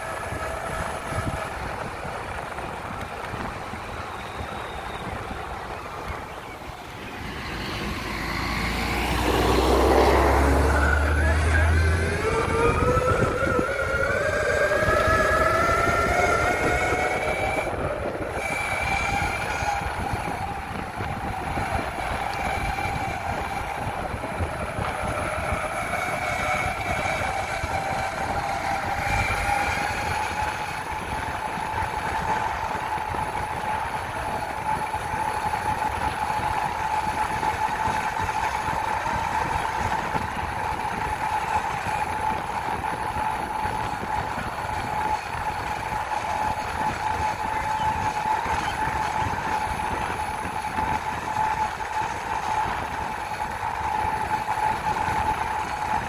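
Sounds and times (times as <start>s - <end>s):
wheels rumbling over ground: 0.0s - 56.0s
electric motor whining: 7.2s - 56.0s.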